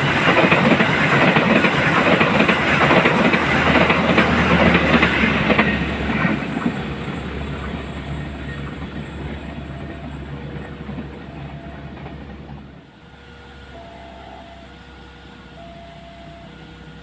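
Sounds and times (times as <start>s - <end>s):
passing train rumble and clatter: 0.0s - 17.0s.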